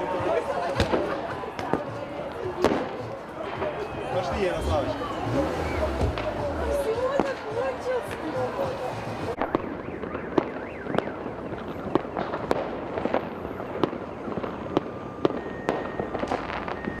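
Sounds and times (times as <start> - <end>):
distant fireworks crackling: 0.2 - 17.0.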